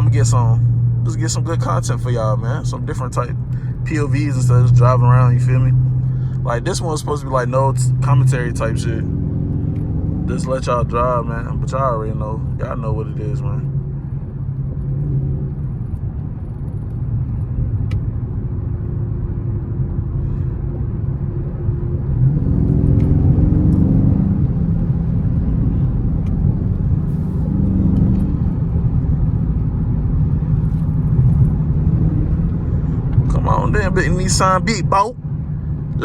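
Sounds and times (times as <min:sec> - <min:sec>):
car engine low rumble: 0:00.0 - 0:36.0.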